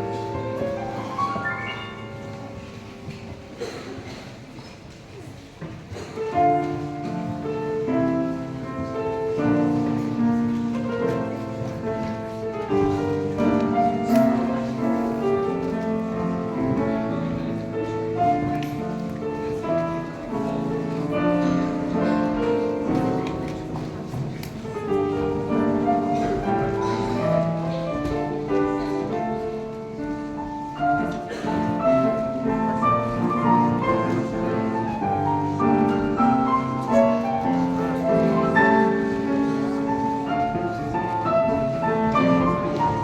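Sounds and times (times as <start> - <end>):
solo piano playing: 0.0 - 3.6, 6.2 - 43.0.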